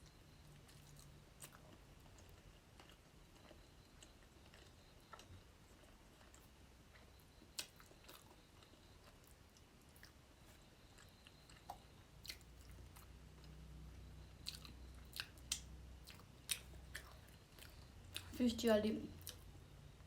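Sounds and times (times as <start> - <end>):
close chewing: 0.6 - 18.4.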